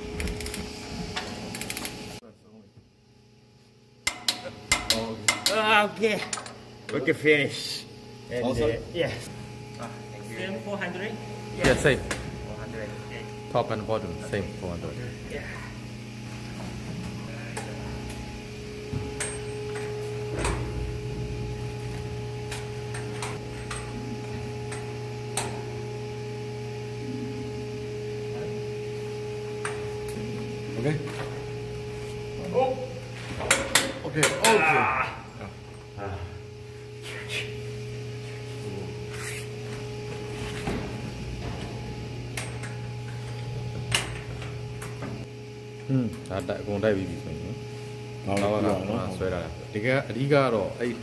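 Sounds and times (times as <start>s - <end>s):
engine room machinery hum: 0.0s - 51.0s.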